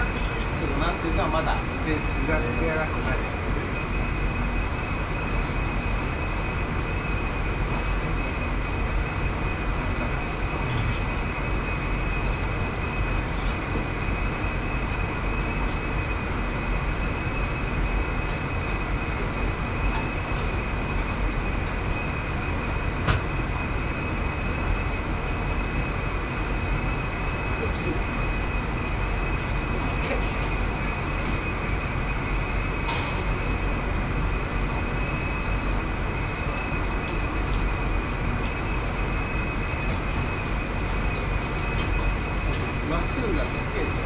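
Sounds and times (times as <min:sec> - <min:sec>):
exhaust hood fans roaring: 0:00.0 - 0:44.0
faint high whine: 0:00.0 - 0:44.0.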